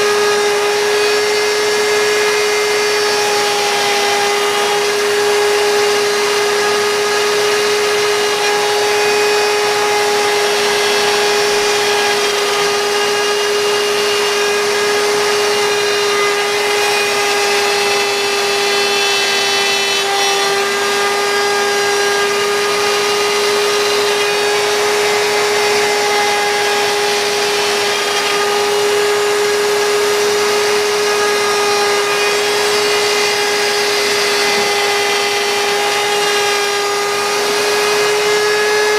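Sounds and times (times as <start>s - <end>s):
router cutting wood hiss: 0.0s - 38.9s
router spindle high-pitched whine: 0.0s - 38.9s.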